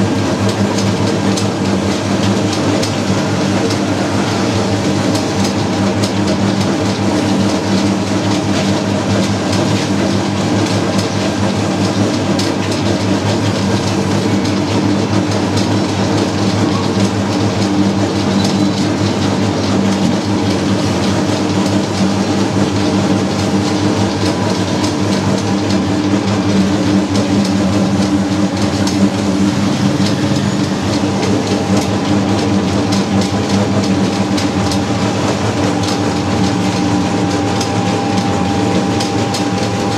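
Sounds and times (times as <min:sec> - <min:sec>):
machine low hum: 0:00.0 - 0:39.9
rattling and clicking: 0:00.1 - 0:39.9.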